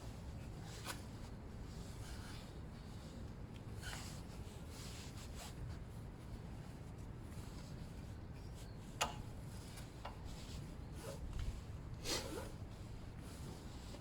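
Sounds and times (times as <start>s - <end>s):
soft rustles or scrapes: 0.1s - 14.0s.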